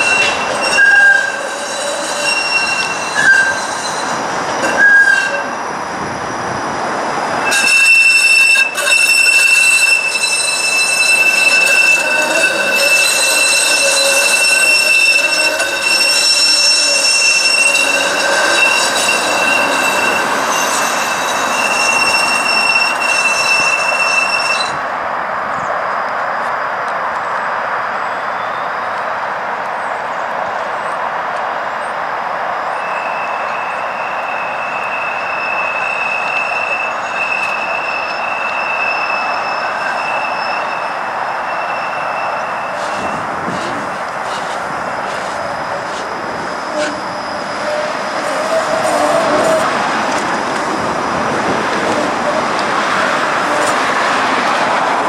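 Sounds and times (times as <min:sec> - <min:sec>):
streetcar wheels squealing: 0:00.0 - 0:24.9, 0:32.7 - 0:55.0
streetcar rumbling on rails: 0:00.0 - 0:55.0.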